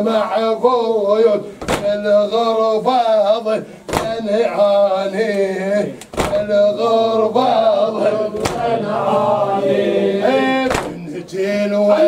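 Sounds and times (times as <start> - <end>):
men chanting a lament: 0.0 - 12.0.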